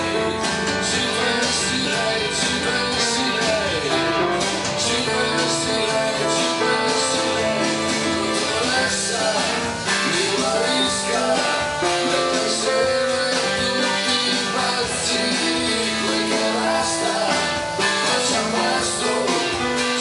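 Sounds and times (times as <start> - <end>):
pop-rock keyboard music: 0.0 - 20.0.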